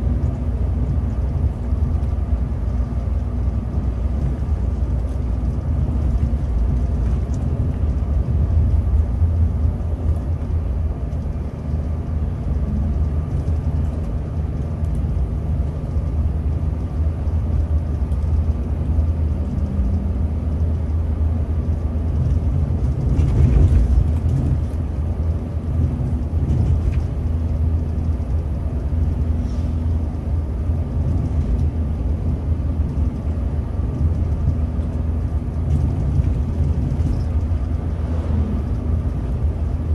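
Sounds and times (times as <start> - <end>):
bus engine rumble: 0.0 - 39.9
road noise: 0.0 - 39.9.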